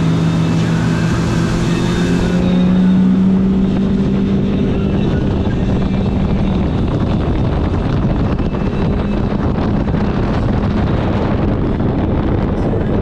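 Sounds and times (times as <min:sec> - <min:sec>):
motorboat running: 0:00.0 - 0:13.0
wind buffeting microphone: 0:00.0 - 0:13.0.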